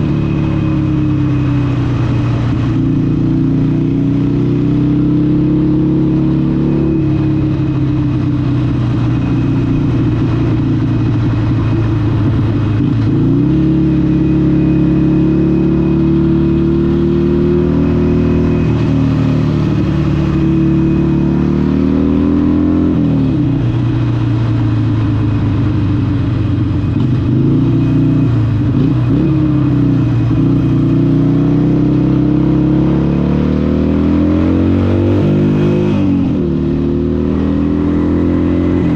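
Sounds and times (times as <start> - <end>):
motorcycle exhaust note: 0.0 - 38.9.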